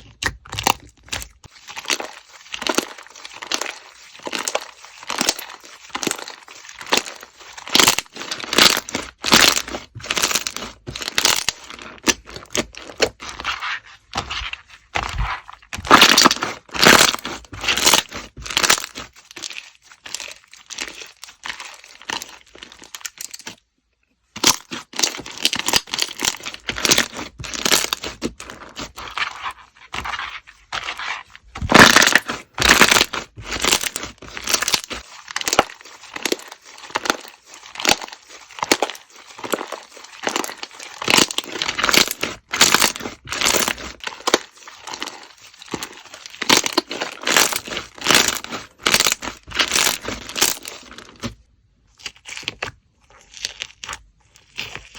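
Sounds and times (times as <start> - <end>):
slime crackling and popping: 0.0 - 23.6, 24.4 - 54.9.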